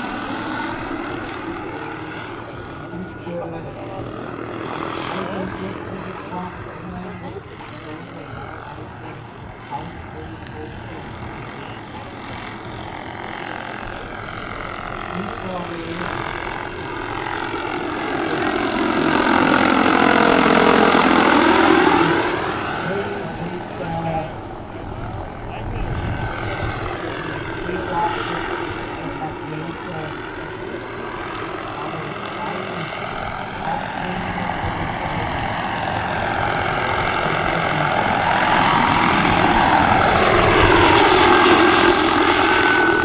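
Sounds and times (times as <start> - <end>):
model helicopter turbine and rotor: 0.0 - 43.0.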